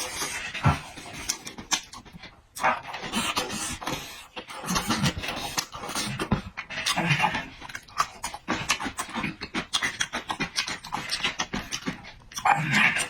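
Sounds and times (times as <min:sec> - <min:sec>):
wet chewing: 0:00.0 - 0:13.0
lip-smacking: 0:00.1 - 0:13.0.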